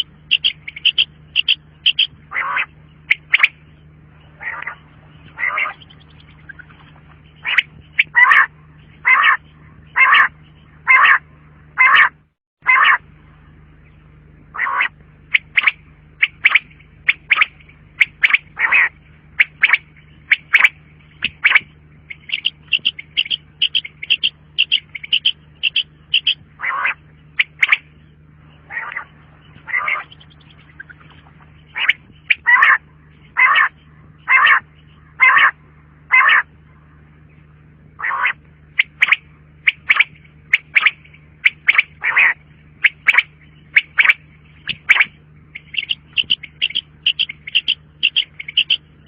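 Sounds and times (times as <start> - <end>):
quail calling: 0.0 - 13.1, 14.5 - 36.8, 38.0 - 49.0
faint low hum: 0.0 - 49.0.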